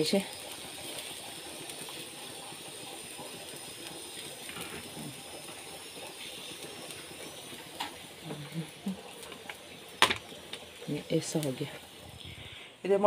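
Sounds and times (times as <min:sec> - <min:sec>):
batter sizzling on a griddle: 0:00.0 - 0:13.0.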